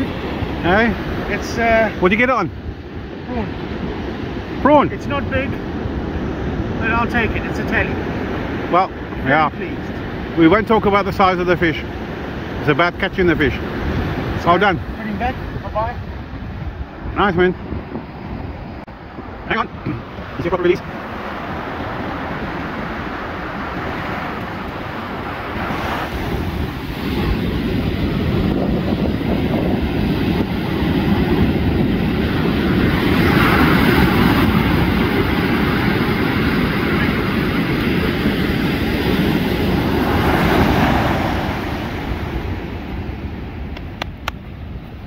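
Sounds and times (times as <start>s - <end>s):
surf washing on beach: 0.0s - 45.0s
wind rumbling on microphone: 0.0s - 45.0s.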